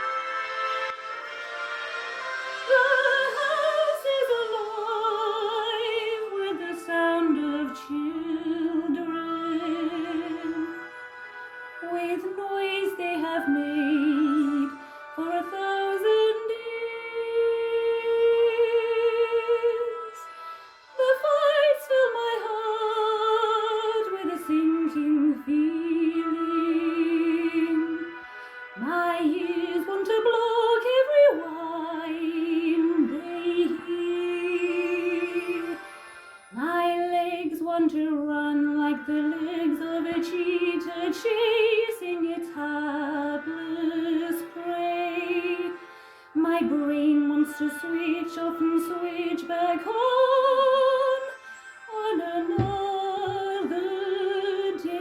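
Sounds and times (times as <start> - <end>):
instrumental accompaniment: 0.0 - 55.0
woman singing operatically: 2.2 - 10.9, 11.8 - 20.3, 21.0 - 28.2, 28.8 - 35.9, 36.5 - 45.8, 46.4 - 55.0.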